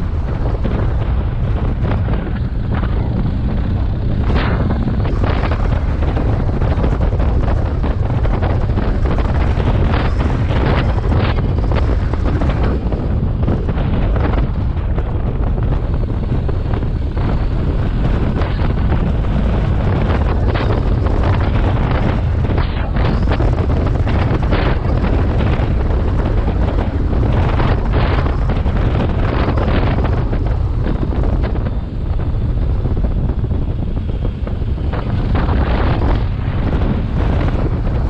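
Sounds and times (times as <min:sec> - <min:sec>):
motorcycle engine: 0:00.0 - 0:38.0
road noise: 0:00.0 - 0:38.0
wind buffeting microphone: 0:00.0 - 0:38.0.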